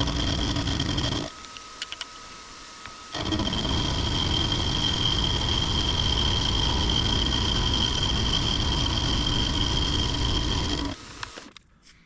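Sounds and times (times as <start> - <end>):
milling machine cutting metal: 0.0 - 2.1, 2.8 - 11.5.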